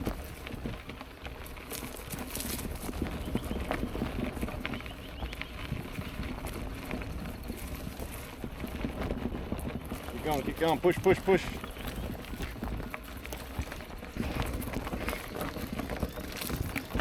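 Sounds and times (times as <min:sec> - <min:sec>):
bike rattling: 0:00.0 - 0:17.0
tyres crunching on rocky trail: 0:00.0 - 0:17.0.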